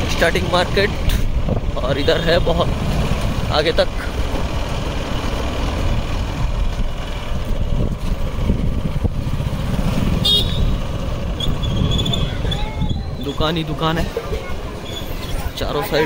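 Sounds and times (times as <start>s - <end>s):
motorcycles rumbling: 0.0s - 16.0s.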